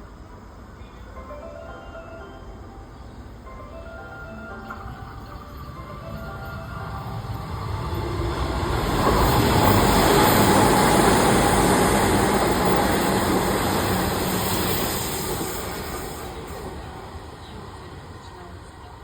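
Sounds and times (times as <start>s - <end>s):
electric trains passing at speed: 0.0s - 19.0s.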